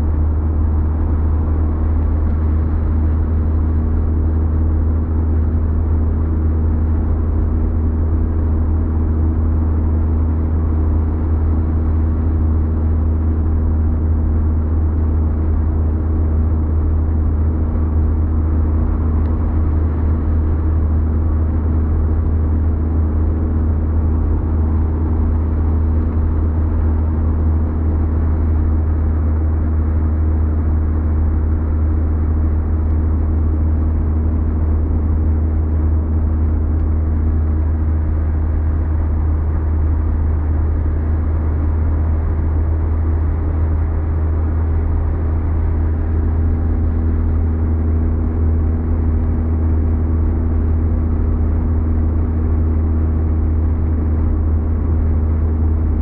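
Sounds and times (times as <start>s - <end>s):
car engine and tyre rumble: 0.0s - 56.0s
constant low hum: 0.0s - 56.0s.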